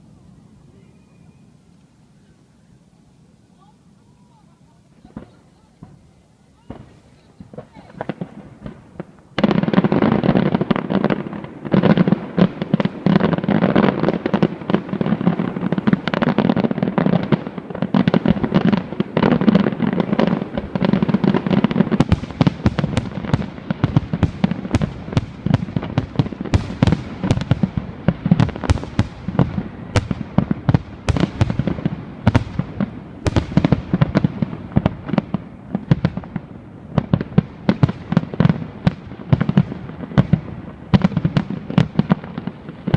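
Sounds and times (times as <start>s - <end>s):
fireworks bangs and crackling: 3.6s - 42.9s
sharp firework cracks: 5.0s - 42.9s.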